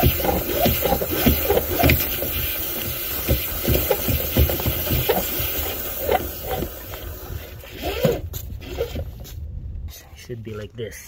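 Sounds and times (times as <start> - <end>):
air rushing from vent: 0.0 - 9.7.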